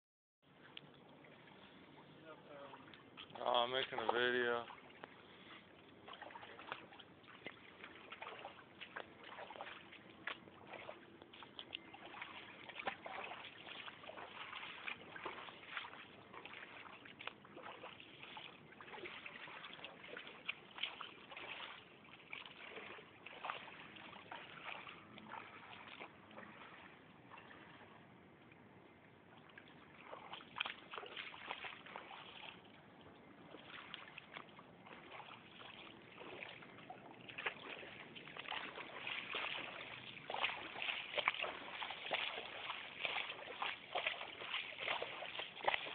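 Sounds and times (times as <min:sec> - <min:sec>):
floodwater sloshing and splashing: 0:00.4 - 0:45.9.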